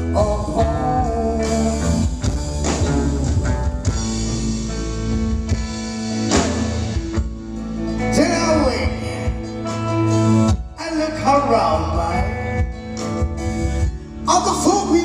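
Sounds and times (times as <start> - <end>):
country band playing: 0.0 - 15.0.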